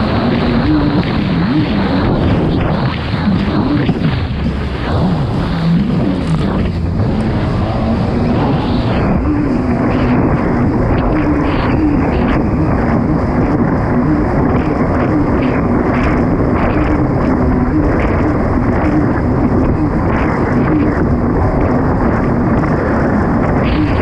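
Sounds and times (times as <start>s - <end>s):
rush of wind and water: 0.0s - 24.0s
watercraft engine running hard: 0.0s - 24.0s.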